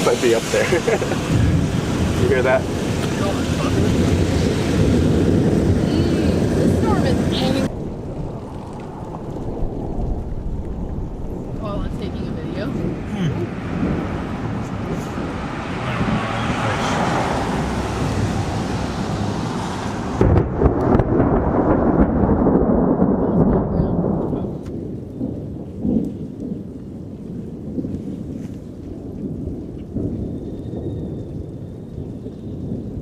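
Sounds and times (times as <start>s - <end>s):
sharp thunder crack: 0.0s - 33.0s
thunder rumbling: 0.0s - 33.0s.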